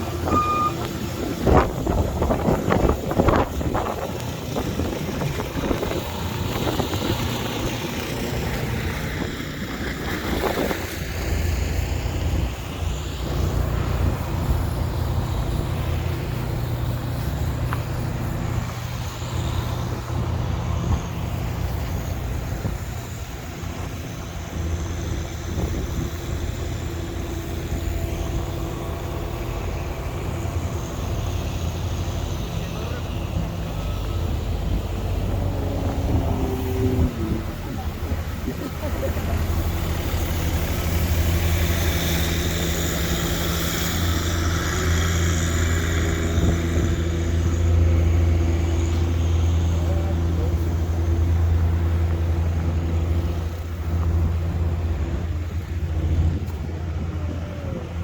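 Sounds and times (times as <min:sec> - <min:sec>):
large vehicle engine running: 0:00.0 - 0:58.0
street traffic: 0:00.0 - 0:58.0.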